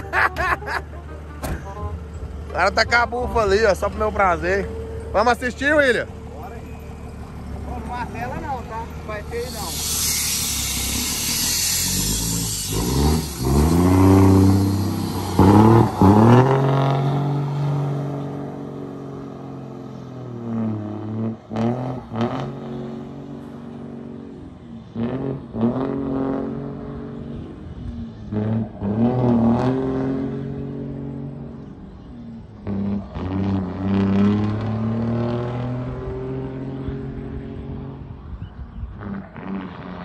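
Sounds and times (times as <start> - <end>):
diesel truck accelerating: 0.0 - 40.0.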